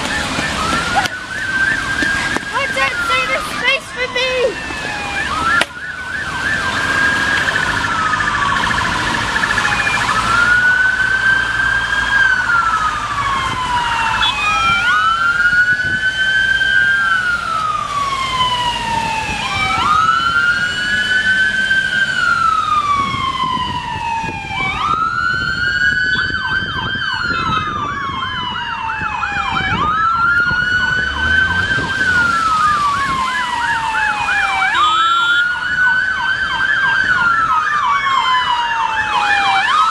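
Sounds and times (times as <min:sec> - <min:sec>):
ambulance siren wailing: 0:00.0 - 0:39.9
siren fast yelp: 0:00.0 - 0:39.9.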